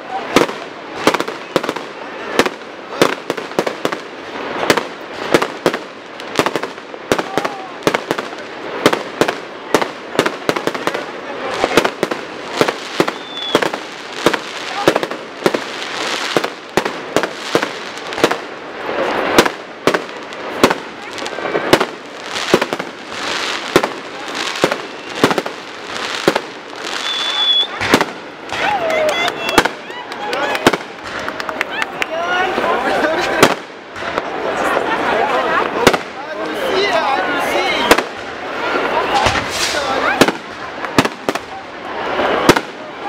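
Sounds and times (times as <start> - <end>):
fireworks bangs: 0.0 - 43.0.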